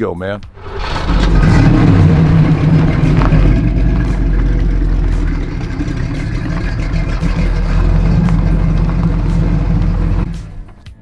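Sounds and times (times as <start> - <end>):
car engine exhaust rumble: 0.5 - 11.0
tyres on gravel: 0.6 - 10.9.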